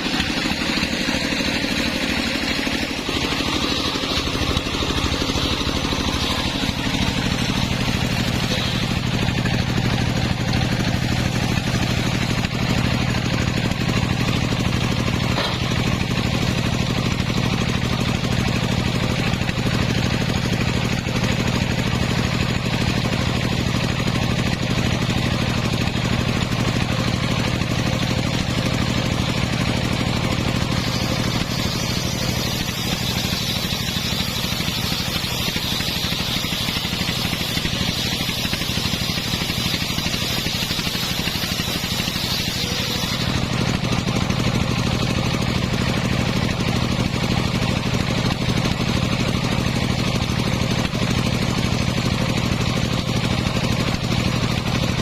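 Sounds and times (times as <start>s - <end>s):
sawmill engine humming: 0.0s - 55.0s.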